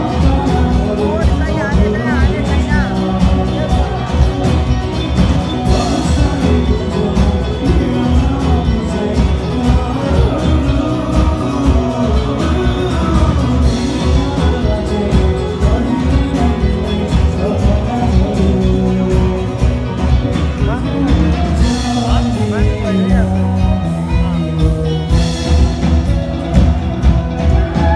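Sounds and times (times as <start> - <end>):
person singing: 0.0 - 27.9
rock band playing: 0.0 - 27.9.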